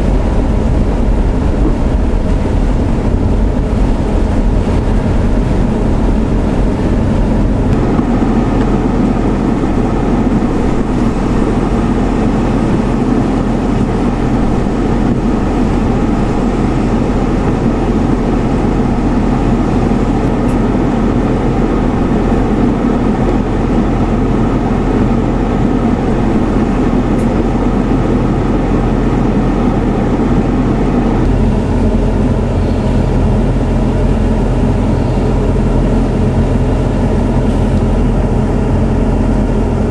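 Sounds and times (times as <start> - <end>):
road and wind noise: 0.0 - 39.9
vehicle engine hum: 0.0 - 39.9.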